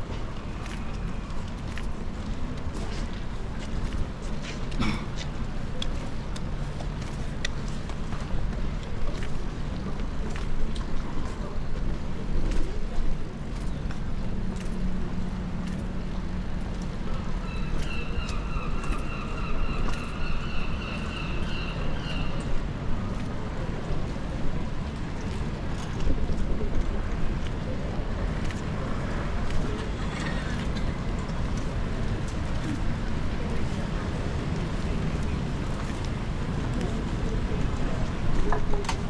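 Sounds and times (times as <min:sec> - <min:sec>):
rumble of traffic: 0:00.0 - 0:39.0.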